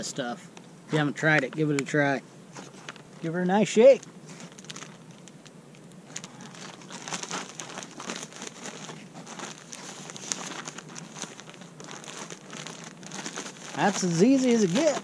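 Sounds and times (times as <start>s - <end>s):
plastic bag crinkling: 2.6s - 15.0s.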